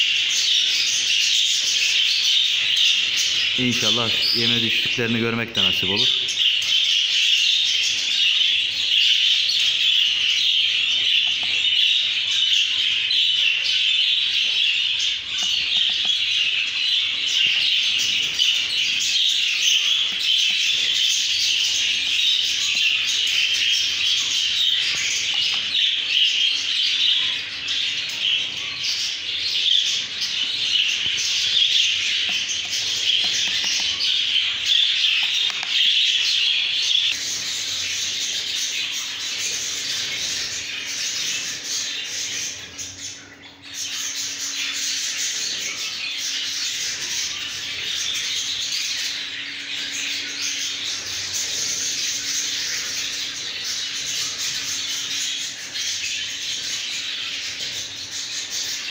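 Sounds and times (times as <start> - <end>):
budgerigars chirping and chattering: 0.0 - 58.9.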